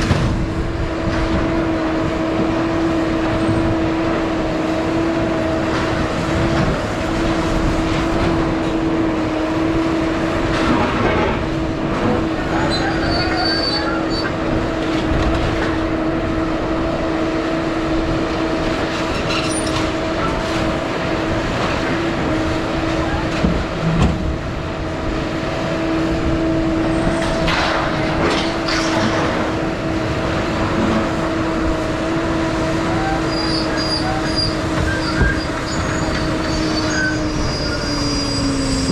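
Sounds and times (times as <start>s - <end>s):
vehicle droning hum: 0.0s - 38.9s.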